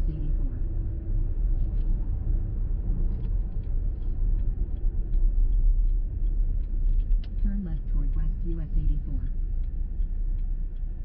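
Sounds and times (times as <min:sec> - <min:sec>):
road rumble and tyre noise: 0:00.0 - 0:11.0.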